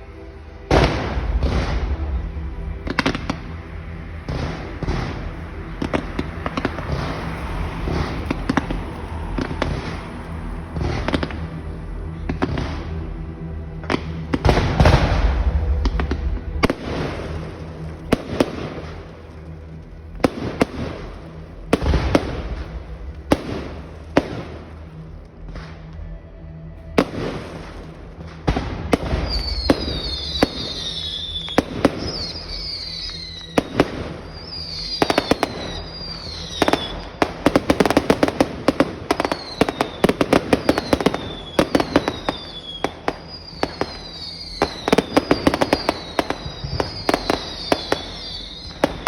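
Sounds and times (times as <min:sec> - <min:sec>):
fireworks bangs: 0:00.6 - 0:13.2, 0:13.8 - 0:25.9, 0:26.9 - 0:49.0.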